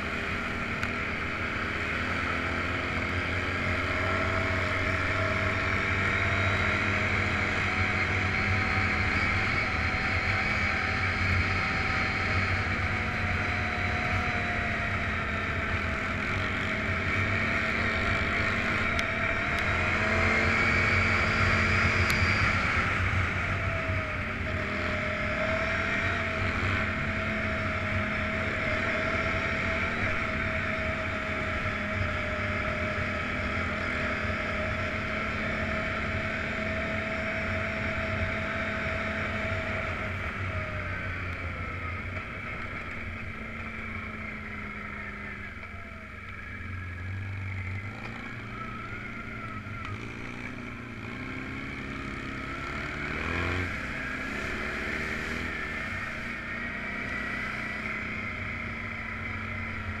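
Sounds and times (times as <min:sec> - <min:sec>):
off-road vehicle engine running: 0:00.0 - 1:00.0.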